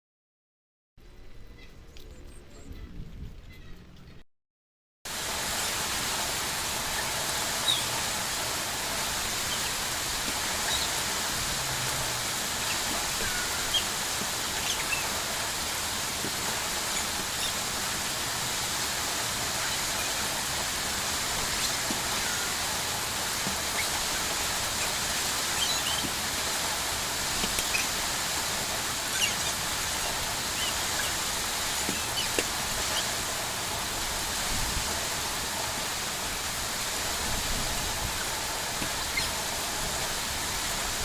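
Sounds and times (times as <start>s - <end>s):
rain falling: 5.1s - 41.0s
sharp rain splashes: 5.1s - 41.0s.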